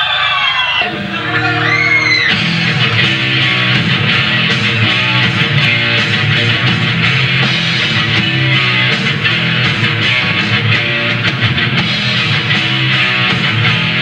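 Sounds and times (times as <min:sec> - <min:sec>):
metal band playing with drums: 0:00.6 - 0:14.0
electric guitar chord ringing: 0:00.8 - 0:14.0.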